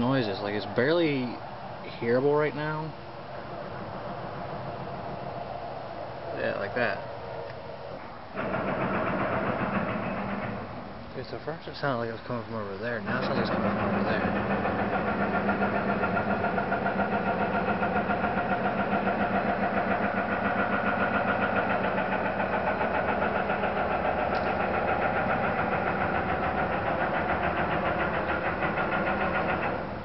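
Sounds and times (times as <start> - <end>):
loud pulsing drone: 0.0 - 11.6, 12.4 - 30.0.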